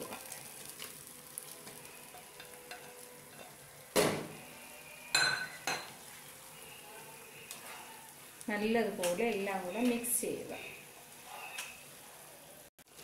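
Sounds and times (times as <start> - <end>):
spatula stirring in frying pan: 0.0 - 3.8, 4.6 - 12.0
faint sizzle: 0.0 - 13.0.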